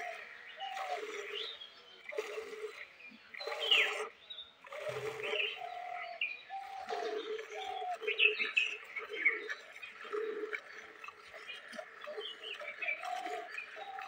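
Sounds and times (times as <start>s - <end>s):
doves cooing: 0.0s - 1.5s, 3.4s - 14.0s
small birds chirping: 0.0s - 14.0s.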